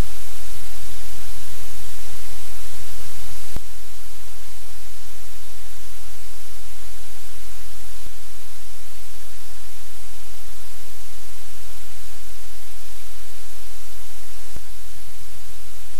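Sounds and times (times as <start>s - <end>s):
loud hiss: 0.0s - 15.9s.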